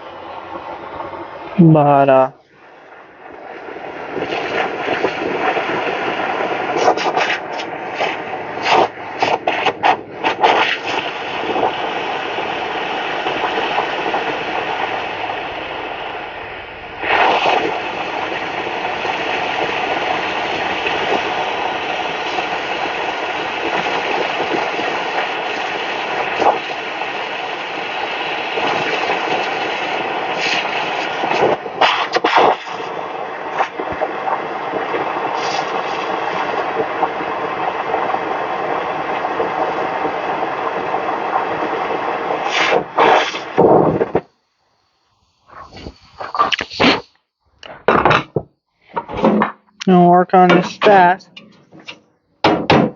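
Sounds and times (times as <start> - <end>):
steady rushing noise: 0.0 - 48.2.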